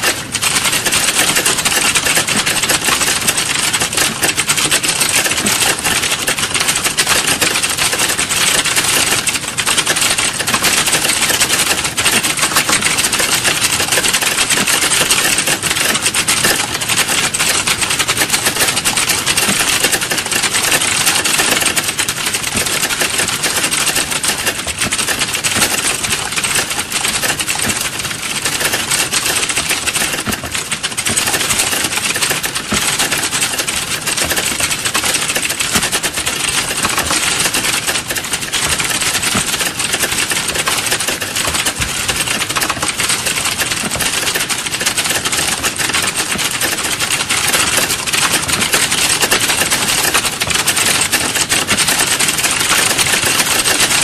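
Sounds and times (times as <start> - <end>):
fast typing on computer keyboard: 0.0 - 54.0.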